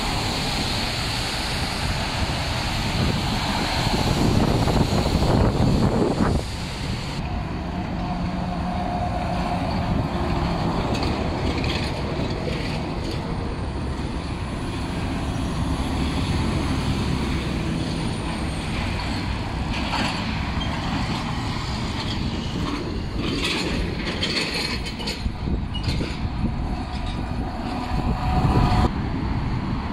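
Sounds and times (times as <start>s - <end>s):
truck diesel engine passing: 0.0s - 24.2s
cars passing: 0.0s - 24.6s, 26.2s - 29.9s.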